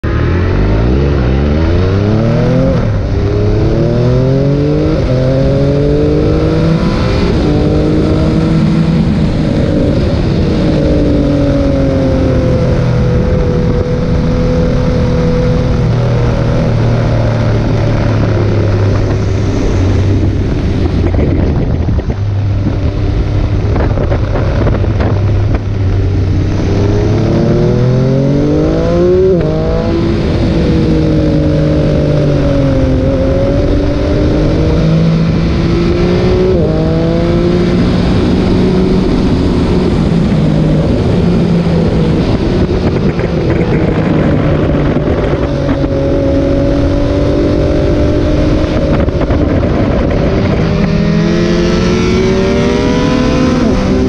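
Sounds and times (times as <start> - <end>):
motorcycle engine accelerating hard: 0.0 - 54.0
wind rush: 0.0 - 54.0.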